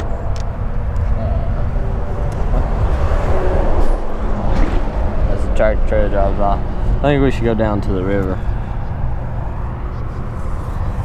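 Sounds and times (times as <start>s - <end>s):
truck engine and tyre rumble: 0.0s - 11.0s.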